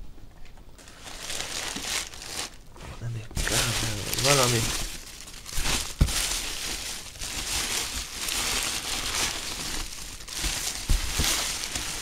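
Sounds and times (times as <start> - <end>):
packing material crinkling: 0.8 - 12.0.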